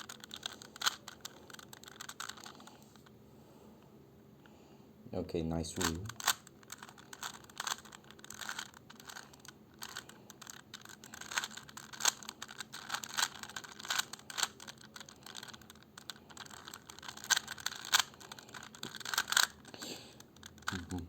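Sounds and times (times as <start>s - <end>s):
puzzle cube plastic clicks: 0.0s - 3.1s, 5.7s - 21.0s.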